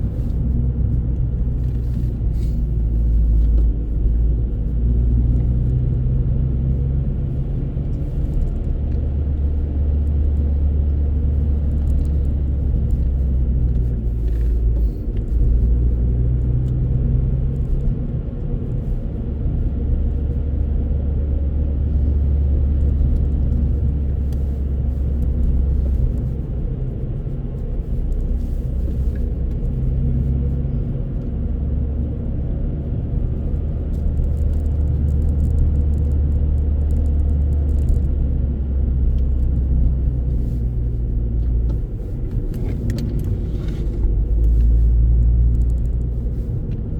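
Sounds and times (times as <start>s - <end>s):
car engine and tyre rumble: 0.0s - 46.9s.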